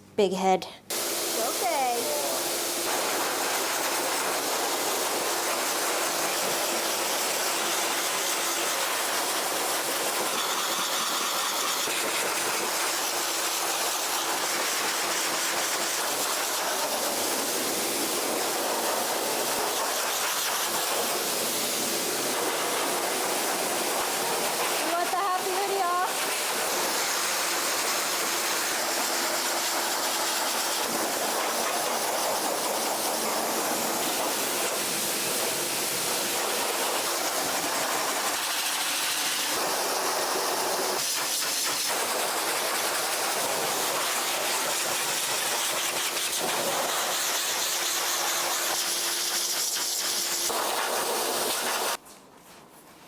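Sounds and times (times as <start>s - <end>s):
pet dryer blowing air: 0.9s - 52.0s.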